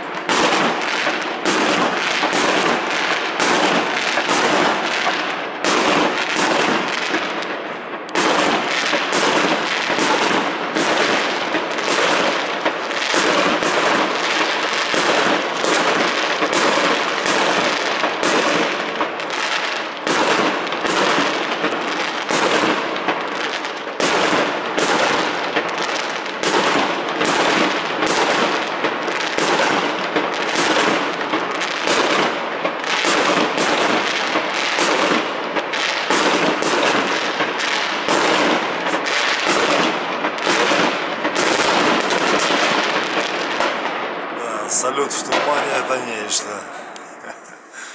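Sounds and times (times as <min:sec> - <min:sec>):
fireworks bangs: 0:00.0 - 0:47.9
fireworks crackling: 0:00.0 - 0:47.9.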